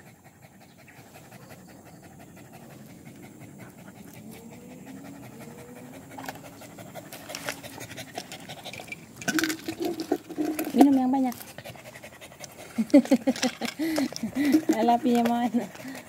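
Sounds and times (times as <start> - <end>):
dog panting: 0.0 - 16.0
dog lapping water: 2.7 - 16.0.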